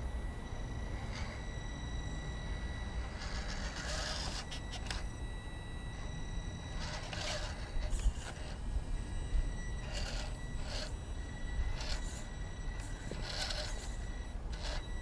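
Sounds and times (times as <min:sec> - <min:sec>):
rc car motor whine: 0:00.0 - 0:15.0.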